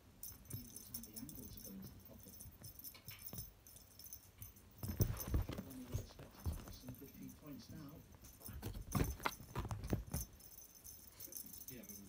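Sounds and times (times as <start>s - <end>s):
cat toy jingling and rattling: 0.2s - 12.0s.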